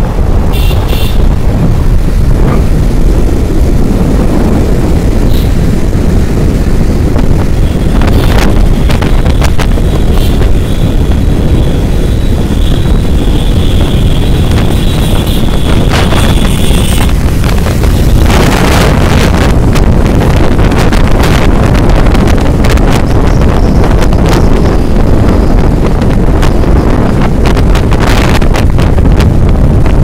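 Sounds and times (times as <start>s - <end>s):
vehicle rumble on road: 0.0s - 30.0s
wind buffeting microphone: 0.0s - 30.0s.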